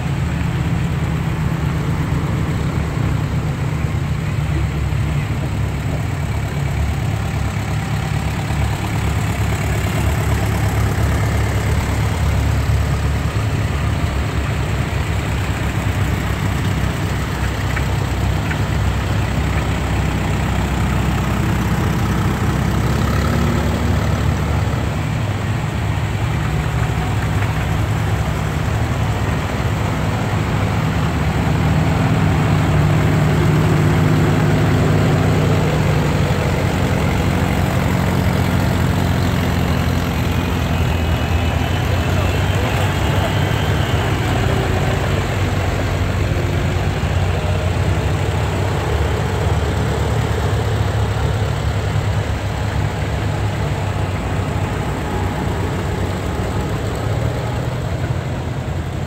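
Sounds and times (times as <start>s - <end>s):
tractor engines running at low speed: 0.0s - 59.0s.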